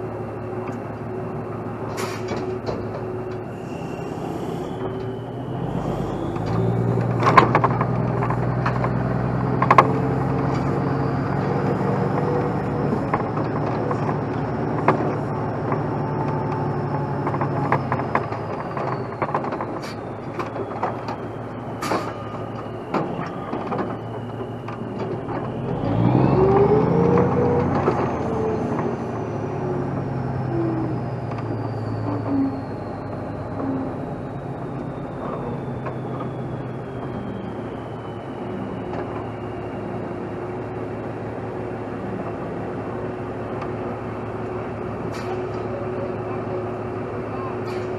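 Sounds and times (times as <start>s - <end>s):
diesel truck engine running: 0.0s - 47.9s.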